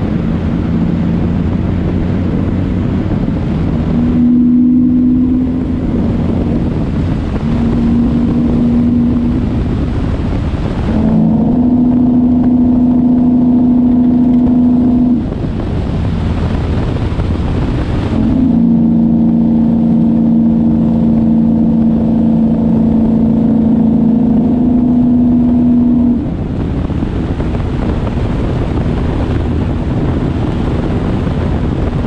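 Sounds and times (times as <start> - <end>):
steady droning hum: 0.0 - 27.4
road and wind noise: 0.0 - 32.0
truck engine running: 0.0 - 32.0.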